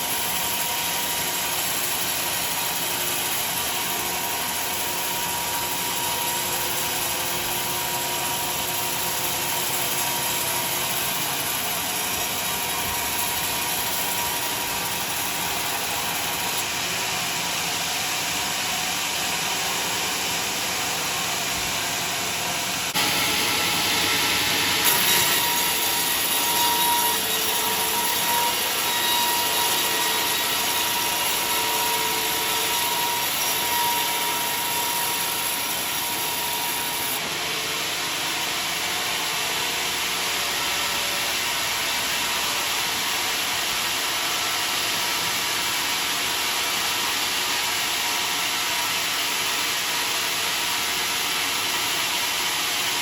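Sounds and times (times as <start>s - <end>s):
sawmill saw cutting log: 0.0s - 53.0s.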